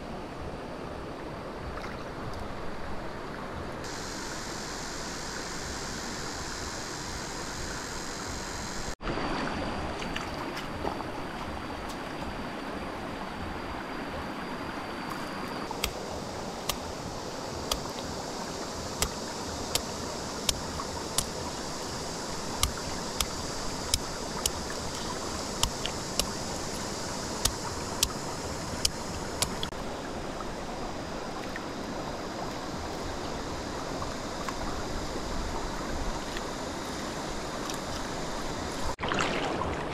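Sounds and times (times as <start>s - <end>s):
rushing stream water: 0.0s - 39.9s.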